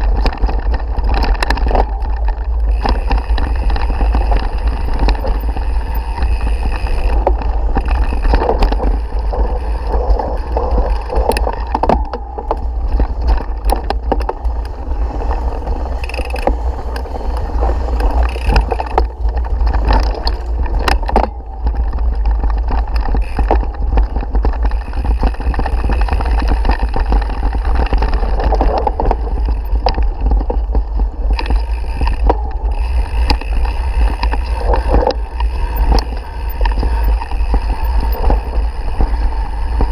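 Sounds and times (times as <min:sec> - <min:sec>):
bike rattling over bumps: 0:00.0 - 0:39.9
bike tyres rumbling on dirt: 0:00.0 - 0:39.9
wind on microphone: 0:00.0 - 0:39.9.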